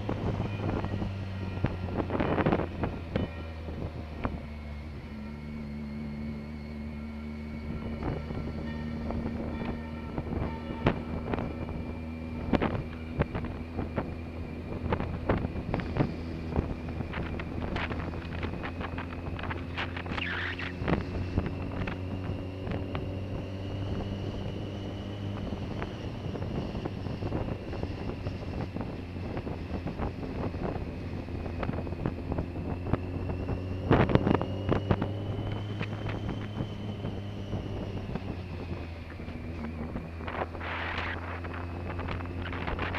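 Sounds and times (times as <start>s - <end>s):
faint whine: 0.0s - 42.9s
motorcycle engine cruising: 0.0s - 42.9s
wind buffeting microphone: 7.7s - 42.9s.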